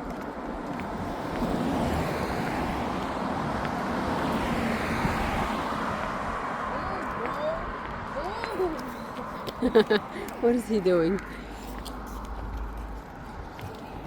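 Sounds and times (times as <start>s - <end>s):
wind buffeting microphone: 0.0s - 11.5s, 12.2s - 14.0s.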